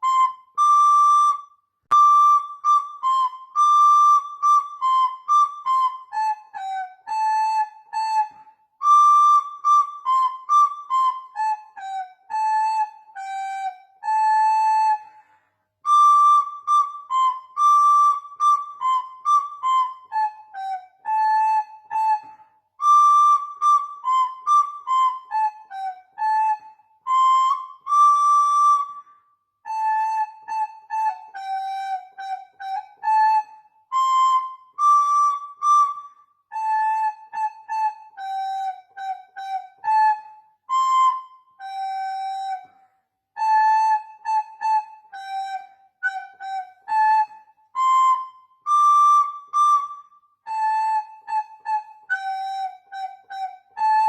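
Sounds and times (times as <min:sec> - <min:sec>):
solo flute melody: 0:00.0 - 0:54.0.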